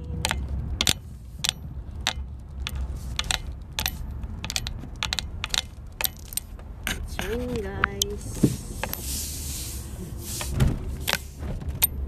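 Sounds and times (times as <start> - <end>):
engine and road rumble: 0.0 - 12.0
turn signal clicking: 0.0 - 12.0.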